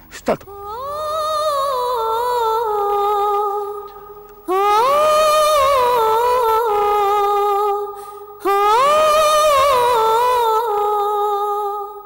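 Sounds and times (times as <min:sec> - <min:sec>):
person singing wordless melody: 0:00.4 - 0:12.0.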